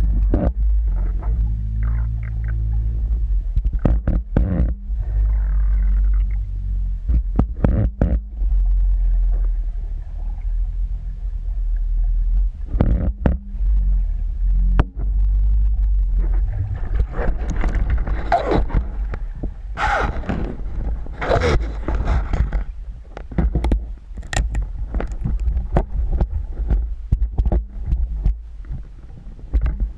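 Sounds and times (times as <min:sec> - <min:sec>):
water moving over camera housing: 0:00.0 - 0:10.8, 0:12.3 - 0:29.9
crackling and scraping: 0:00.0 - 0:29.9.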